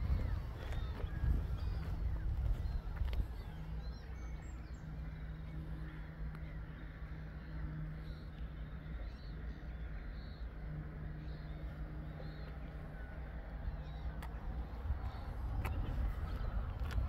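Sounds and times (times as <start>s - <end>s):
low rumble: 0.0s - 17.0s
steady low hum: 0.0s - 17.0s
waterbirds calling: 0.0s - 17.0s.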